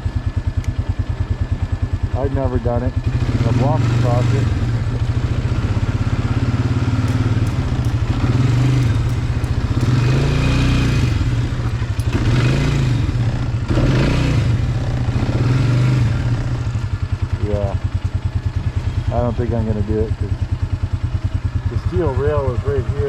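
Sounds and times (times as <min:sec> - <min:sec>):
small engine idling: 0:00.0 - 0:23.0.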